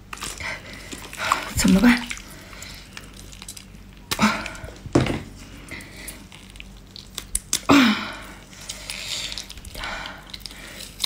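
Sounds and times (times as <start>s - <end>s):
wet squishing of octopus: 0.0s - 4.8s, 5.4s - 11.0s.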